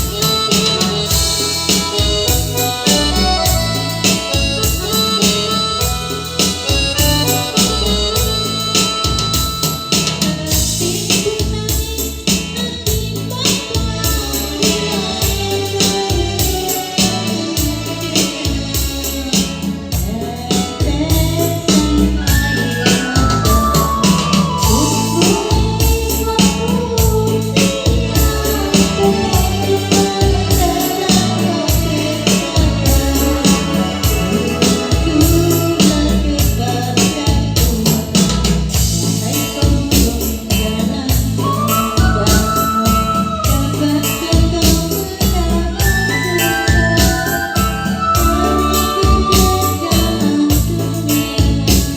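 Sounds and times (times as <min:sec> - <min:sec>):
music with repeating bass beat: 0:00.0 - 0:51.9.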